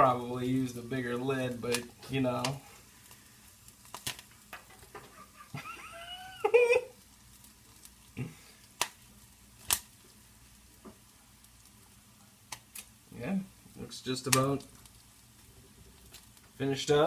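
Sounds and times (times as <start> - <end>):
popcorn popping: 1.4 - 17.0.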